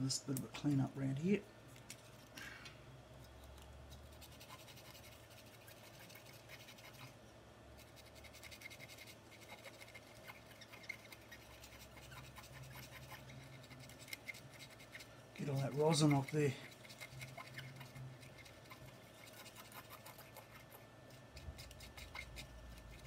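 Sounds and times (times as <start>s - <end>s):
brush scratching circuit board: 3.5s - 7.2s, 7.8s - 23.0s.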